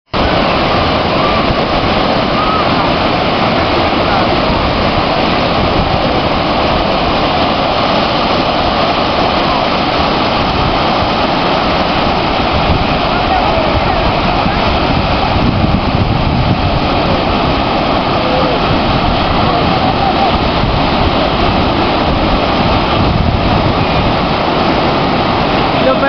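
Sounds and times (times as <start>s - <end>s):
waves breaking on beach: 0.1s - 26.0s.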